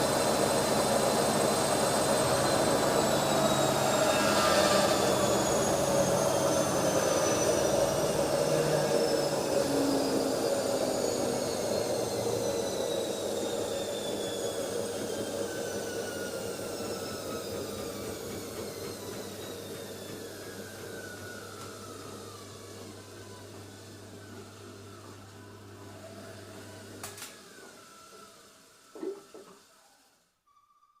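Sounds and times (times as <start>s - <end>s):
washing machine spinning down: 0.0s - 30.0s.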